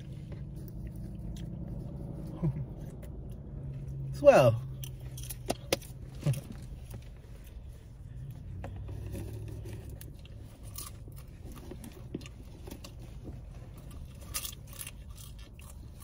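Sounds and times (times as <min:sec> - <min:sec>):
person chewing popcorn: 0:00.0 - 0:03.9, 0:04.8 - 0:16.0
low steady rumble: 0:00.0 - 0:16.0.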